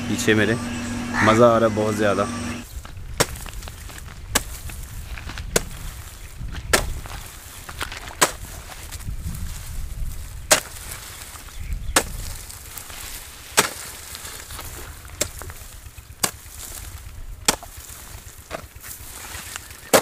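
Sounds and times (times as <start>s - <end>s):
hoe chopping into dry soil: 2.6s - 20.0s.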